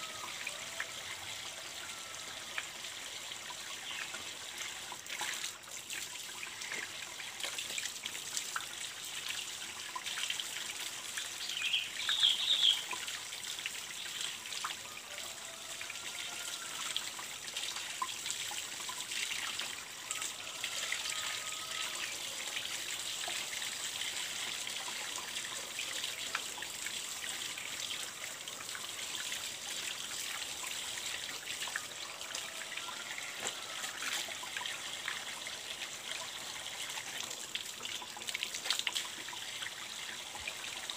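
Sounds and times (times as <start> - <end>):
water trickling from pipe: 0.0 - 40.9.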